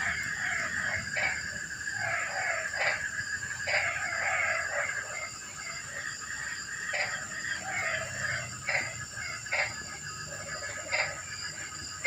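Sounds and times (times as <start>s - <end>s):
frogs chorus: 0.0s - 12.0s
harsh frog croaks: 0.0s - 12.0s.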